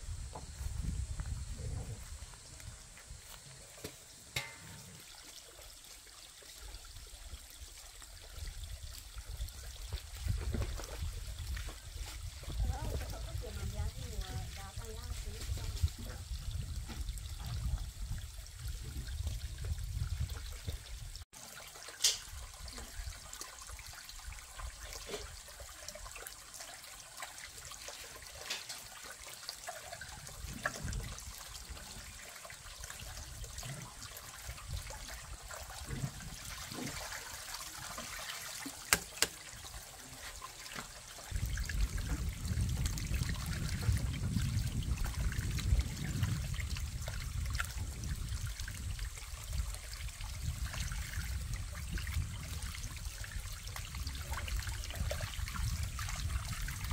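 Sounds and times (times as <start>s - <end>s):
water running into plastic basin: 0.3s - 56.9s.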